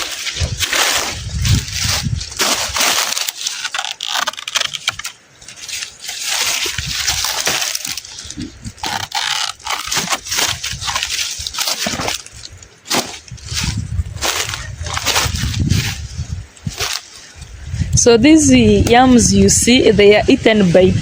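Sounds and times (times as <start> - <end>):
leaves and stems snapping: 0.0 - 17.5.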